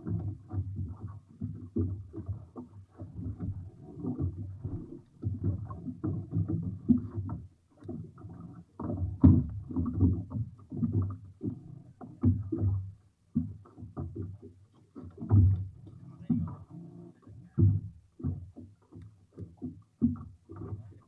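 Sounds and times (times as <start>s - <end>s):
waves slapping boat hull: 0.0s - 21.0s.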